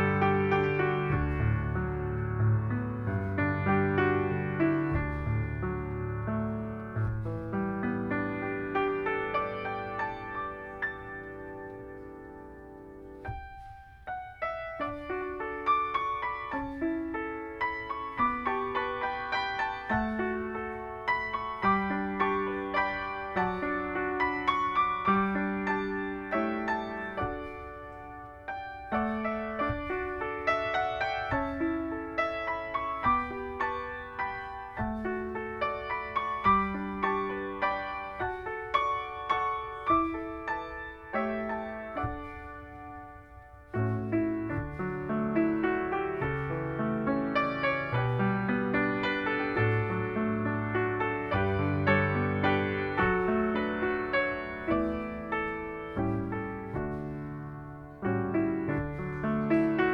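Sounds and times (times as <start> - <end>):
slow gentle solo piano: 0.0 - 59.9.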